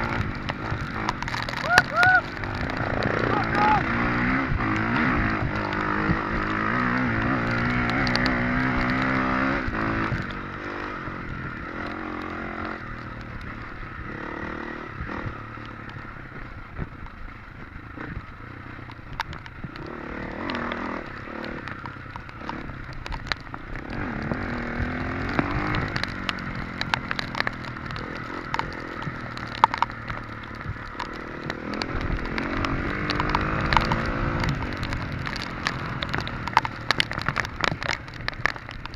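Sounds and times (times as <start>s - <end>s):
clatter and scrapes over rough ground: 0.0s - 38.9s
motorcycle engine revving: 0.0s - 38.9s.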